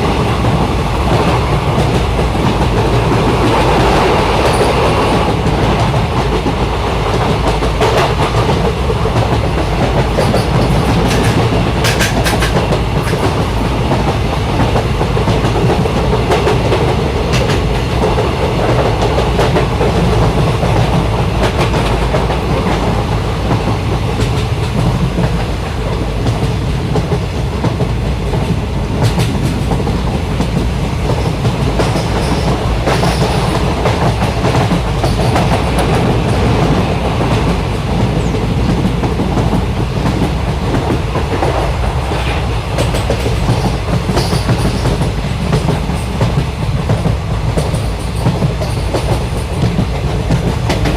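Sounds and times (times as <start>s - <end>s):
train coach rumbling on track: 0.0s - 50.9s
wheels clacking over rail joints: 0.0s - 50.9s.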